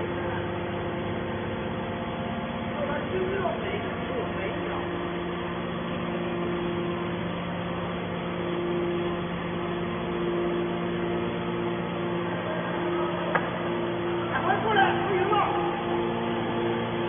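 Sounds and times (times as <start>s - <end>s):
hydraulic machine hum and whine: 0.0s - 17.0s.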